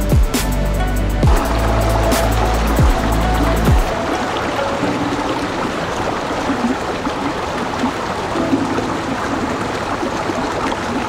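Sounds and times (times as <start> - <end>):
river rushing over rocks: 1.3 - 11.0.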